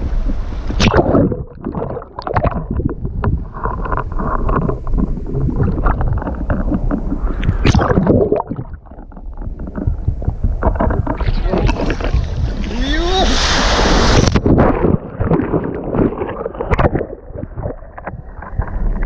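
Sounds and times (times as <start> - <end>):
sea water sloshing and splashing: 0.2 - 19.0
wind buffeting microphone: 2.3 - 19.0.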